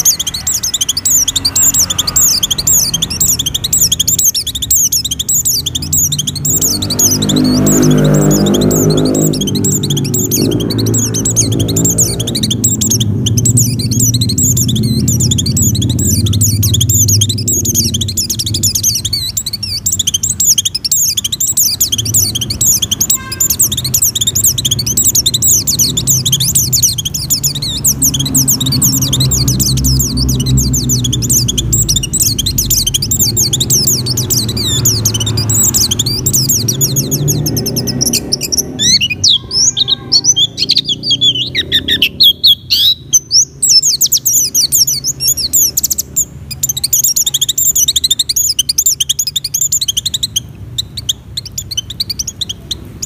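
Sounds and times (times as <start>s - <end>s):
bird twittering song: 0.0s - 53.0s.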